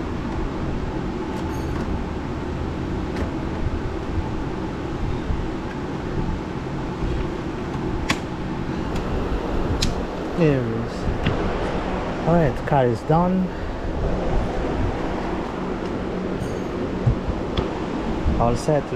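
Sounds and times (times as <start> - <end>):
low mechanical hum: 0.0 - 18.9.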